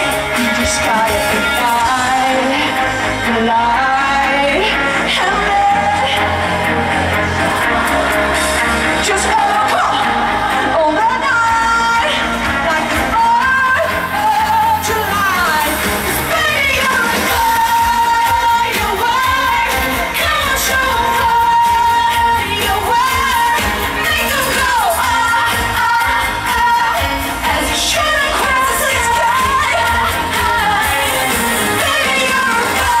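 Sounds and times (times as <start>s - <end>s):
live band playing: 0.0s - 33.0s
woman singing into a microphone: 0.0s - 33.0s.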